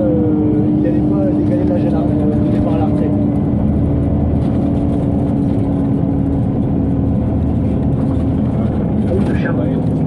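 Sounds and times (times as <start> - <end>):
bus engine drone: 0.0 - 10.0
bus ventilation hum: 0.0 - 10.0.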